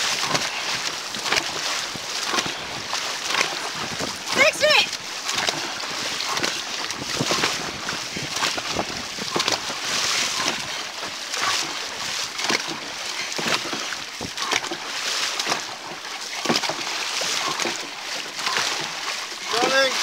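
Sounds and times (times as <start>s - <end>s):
paddles splashing in water: 0.0s - 20.0s.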